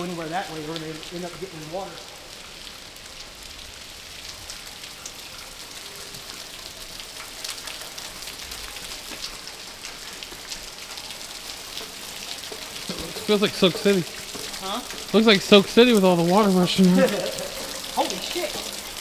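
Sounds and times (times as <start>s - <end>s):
water pouring and dripping: 0.0s - 19.0s.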